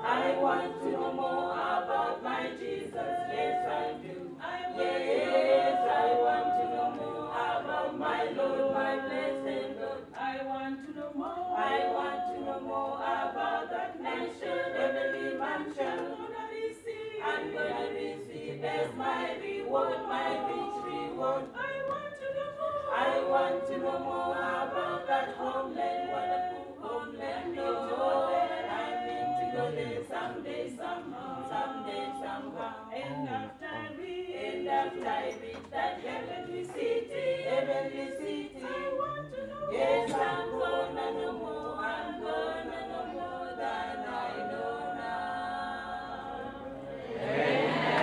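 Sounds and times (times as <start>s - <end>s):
group singing a cappella hymn: 0.0s - 48.0s.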